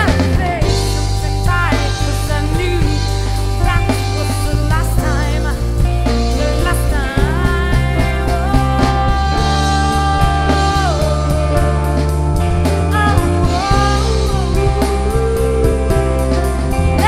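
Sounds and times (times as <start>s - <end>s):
bass guitar: 0.0s - 17.0s
drum kit and cymbal hits: 0.0s - 17.0s
electric guitar: 0.0s - 17.0s
person singing long notes: 0.0s - 17.0s.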